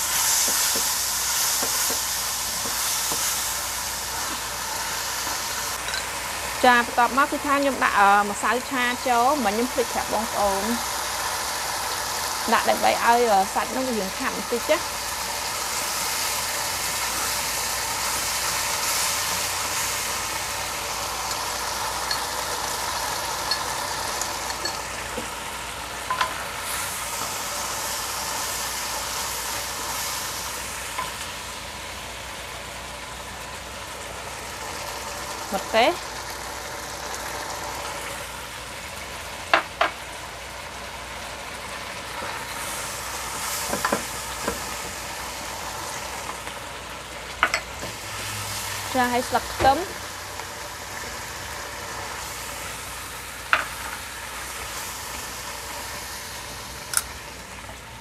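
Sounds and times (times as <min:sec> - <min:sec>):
meat sizzling in a wok: 0:00.0 - 0:58.0.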